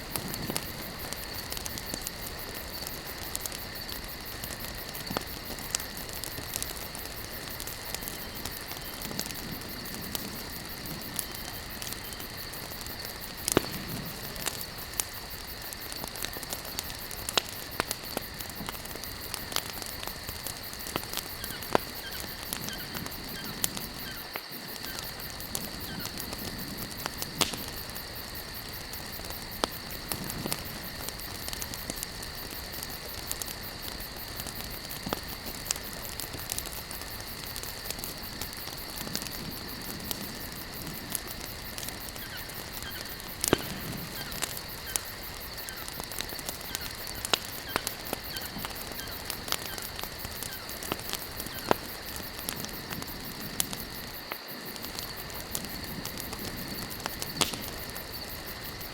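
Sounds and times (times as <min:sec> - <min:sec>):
campfire crackling: 0:00.0 - 0:58.9
crickets chirring: 0:00.0 - 0:58.9.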